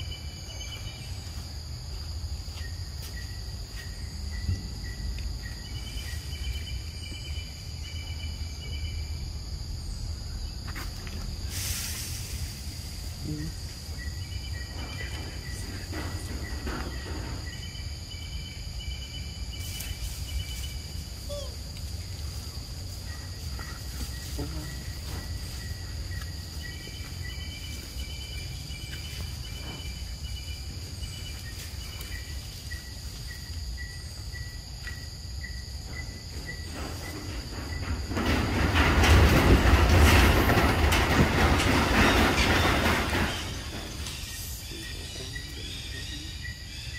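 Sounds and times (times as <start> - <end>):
insects buzzing drone: 0.0 - 46.9.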